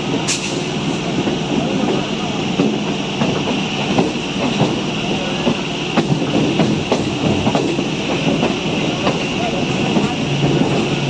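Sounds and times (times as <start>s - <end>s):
train rumbling: 0.0s - 11.0s
train wheels clicking over points: 0.0s - 11.0s.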